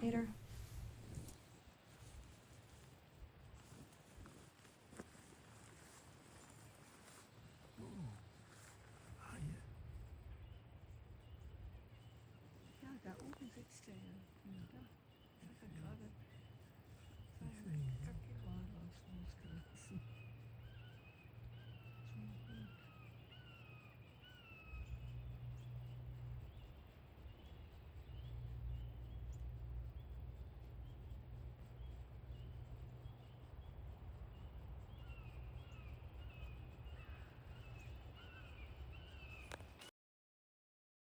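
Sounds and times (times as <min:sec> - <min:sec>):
birds calling: 0:00.0 - 0:39.9
faint low rumble: 0:00.0 - 0:39.9.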